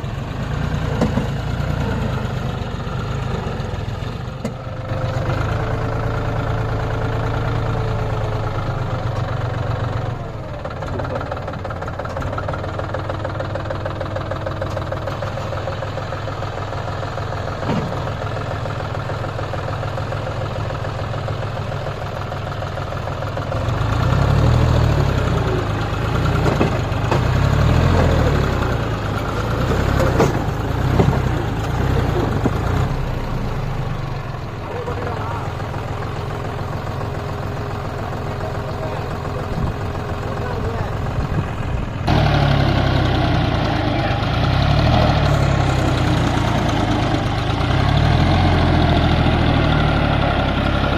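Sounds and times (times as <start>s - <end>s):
diesel tractor engine running: 0.0s - 50.9s.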